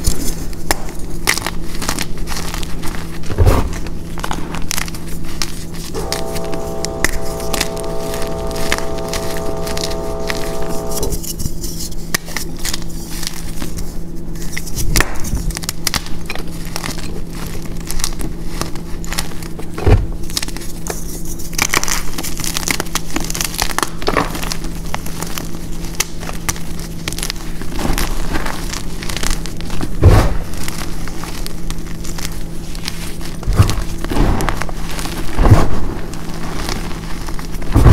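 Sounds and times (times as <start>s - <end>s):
chalk crackling and crunching: 0.0s - 37.9s.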